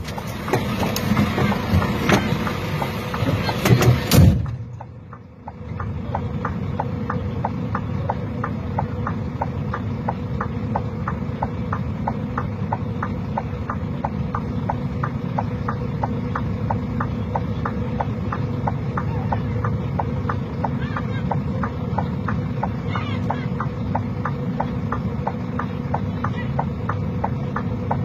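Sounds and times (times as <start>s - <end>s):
engine idling: 0.0s - 28.0s
hazard light relay ticking: 1.0s - 28.0s.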